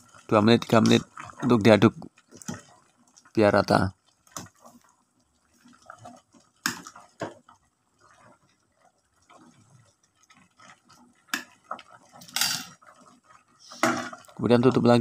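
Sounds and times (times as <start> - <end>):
water sloshing in a pot: 0.0 - 15.0.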